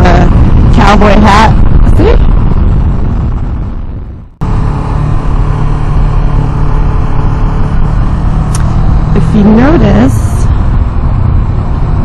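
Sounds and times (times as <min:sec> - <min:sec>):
motorcycle engine: 0:00.0 - 0:12.0
wind rushing: 0:00.0 - 0:12.0.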